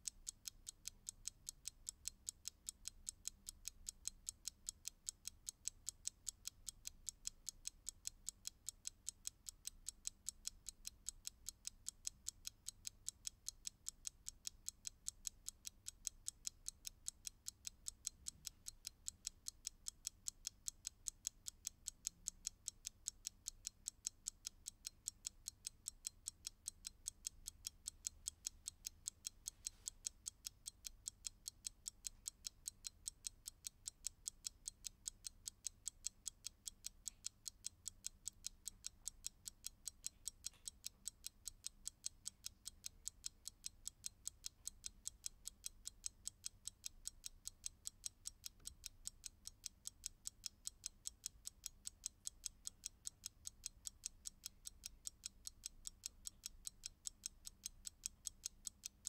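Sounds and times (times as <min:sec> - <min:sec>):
mechanical alarm clock ticking: 0:00.0 - 0:59.0.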